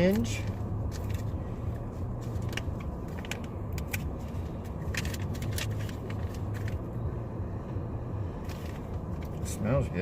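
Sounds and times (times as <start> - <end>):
car engine humming: 0.0 - 10.0.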